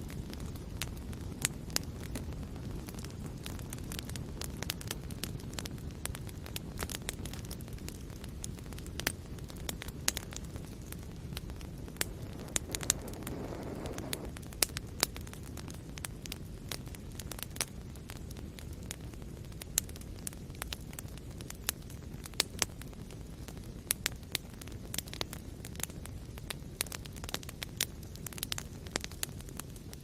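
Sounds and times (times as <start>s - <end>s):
fire rumbling: 0.0s - 30.0s
logs crackling and popping: 0.0s - 30.0s.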